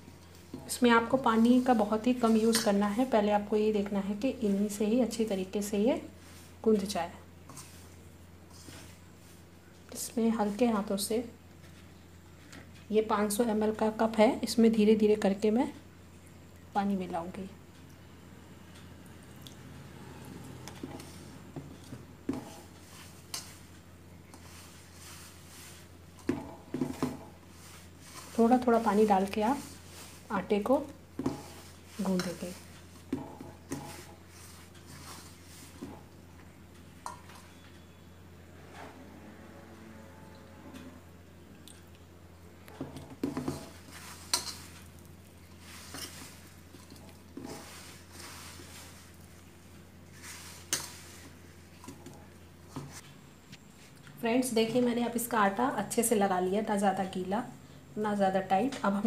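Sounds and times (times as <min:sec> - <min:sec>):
hand mixing dough in steel plate: 0:00.0 - 0:15.5, 0:19.6 - 0:38.0, 0:42.7 - 0:57.2.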